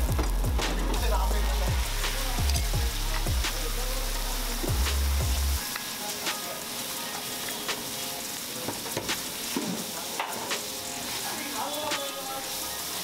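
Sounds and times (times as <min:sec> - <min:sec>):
egg sizzling on griddle: 0:00.0 - 0:13.0.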